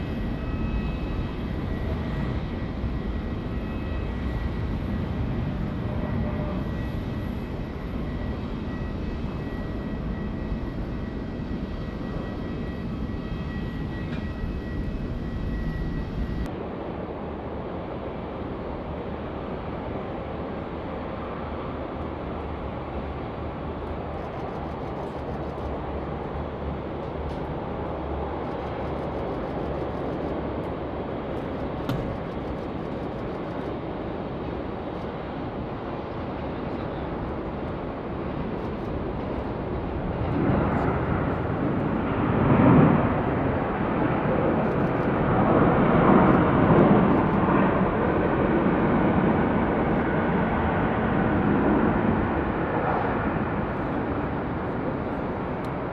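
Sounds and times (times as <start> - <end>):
jet airliner engine noise: 0.0 - 55.9.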